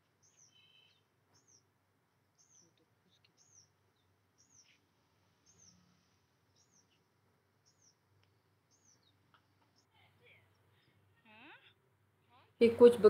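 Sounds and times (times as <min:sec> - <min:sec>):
small bird chirping: 0:00.0 - 0:12.6.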